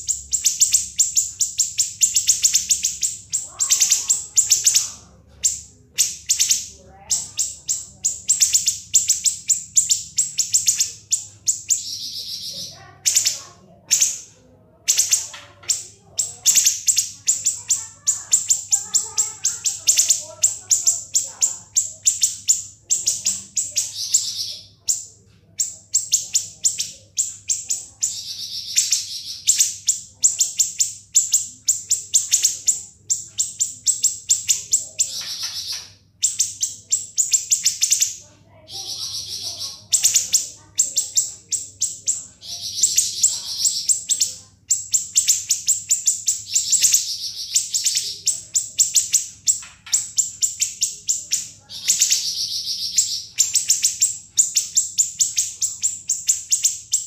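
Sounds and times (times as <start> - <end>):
bird rattling song: 0.0 - 57.0.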